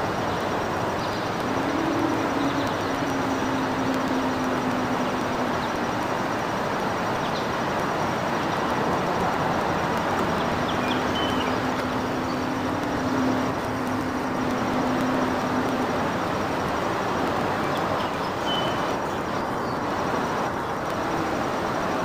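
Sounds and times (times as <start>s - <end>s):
distant mechanical hum: 0.0s - 22.0s
low steady drone: 0.0s - 22.0s.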